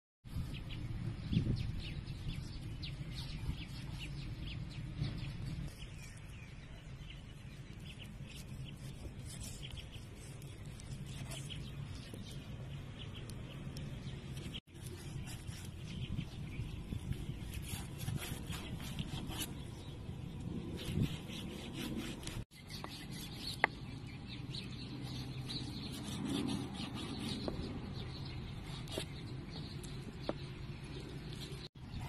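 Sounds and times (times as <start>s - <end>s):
birds chirping: 0.3s - 32.0s.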